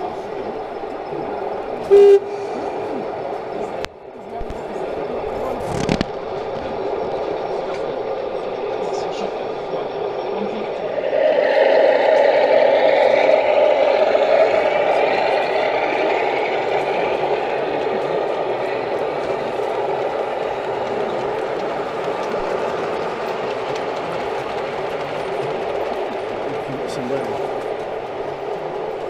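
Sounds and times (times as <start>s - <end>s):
model train wheels rumbling on rail: 0.0s - 29.0s.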